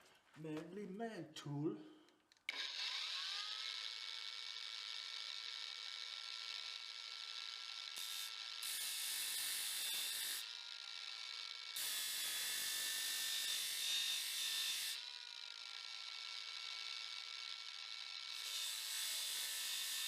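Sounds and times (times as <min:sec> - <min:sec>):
blade rasping on sharpener: 0:02.5 - 0:20.0.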